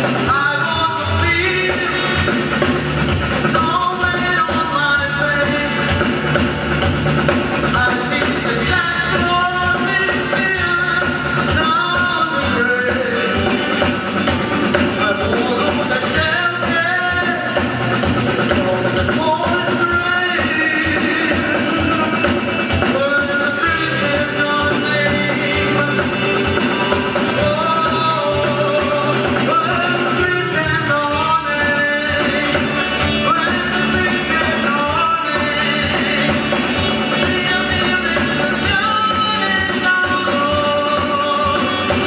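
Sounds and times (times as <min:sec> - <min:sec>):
rock music with singing: 0:00.0 - 0:42.0
steady drum beat: 0:00.0 - 0:42.0.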